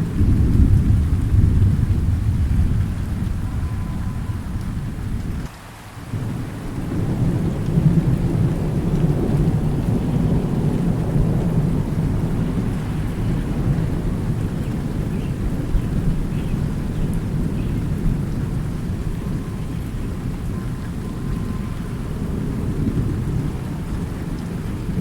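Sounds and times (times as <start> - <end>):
thunder rumbling: 0.0 - 5.5, 6.1 - 25.0
steady rain: 0.0 - 25.0.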